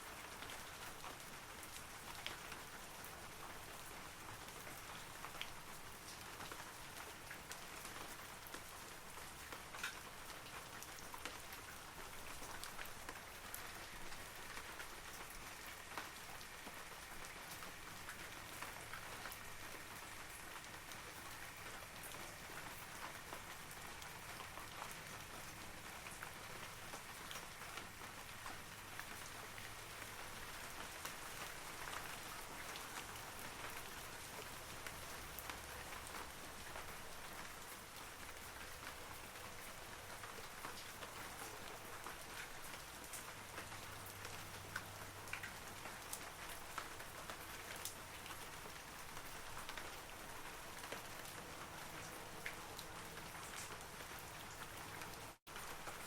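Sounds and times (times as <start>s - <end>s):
raindrops pattering on leaves: 0.0s - 56.0s.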